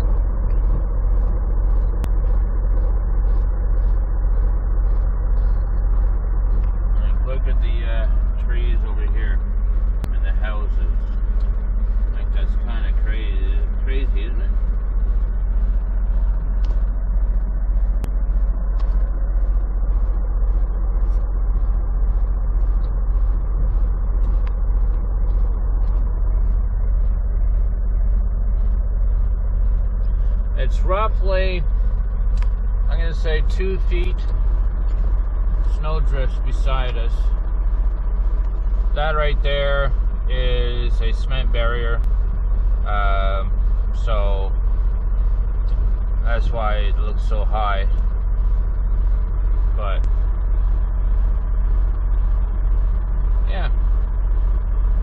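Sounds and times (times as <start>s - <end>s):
diesel truck engine idling: 0.0s - 55.0s
faint regular ticking: 0.0s - 55.0s.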